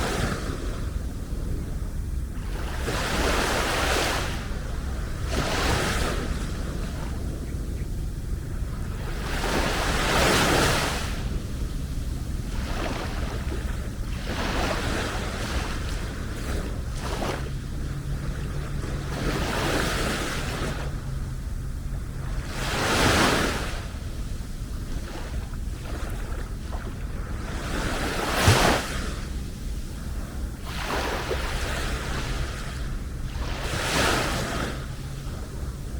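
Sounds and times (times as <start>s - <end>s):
low wind rumble on microphone: 0.0s - 35.9s
small waves washing onto sand: 0.0s - 35.9s.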